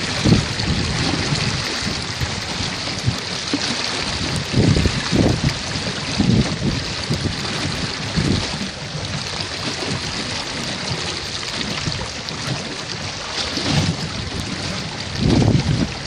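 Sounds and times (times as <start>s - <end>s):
water rushing along a hull: 0.0s - 16.0s
wind buffeting microphone: 0.0s - 16.0s.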